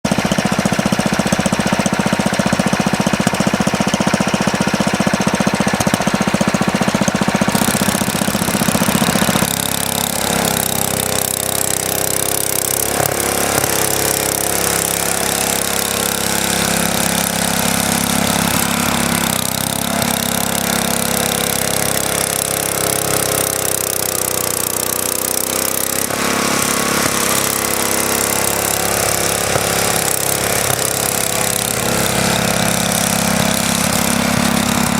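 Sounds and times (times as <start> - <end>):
garden tractor engine under load: 0.0 - 34.9.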